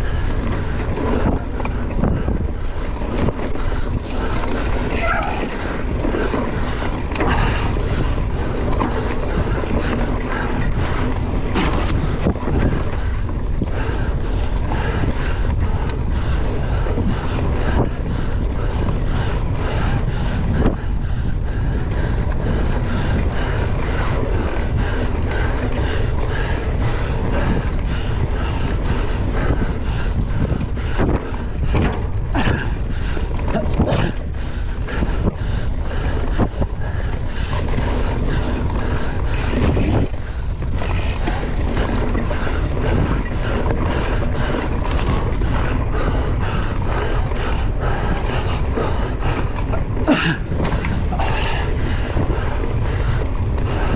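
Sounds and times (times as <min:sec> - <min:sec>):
bike knocks and rattles: 0:00.0 - 0:53.9
steady low rumble: 0:00.0 - 0:53.9
wind rushing over microphone: 0:00.0 - 0:53.9.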